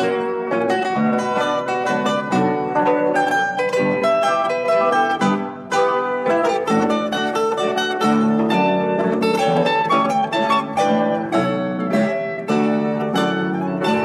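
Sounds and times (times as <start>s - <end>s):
plucked-string instrumental music: 0.0s - 14.0s.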